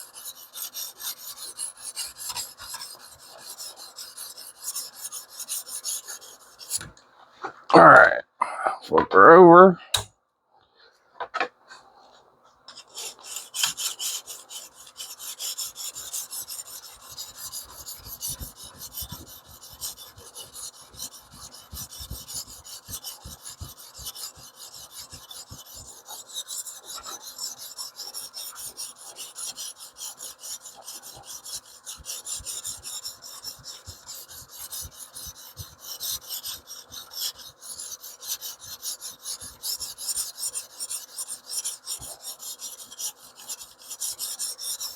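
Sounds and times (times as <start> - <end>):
sharpening stone rasping on knife: 0.0 - 6.9, 12.7 - 44.9.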